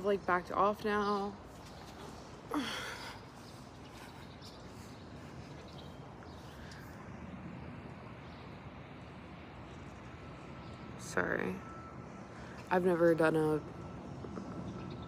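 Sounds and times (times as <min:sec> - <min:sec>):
residential street background noise: 0:00.0 - 0:15.0.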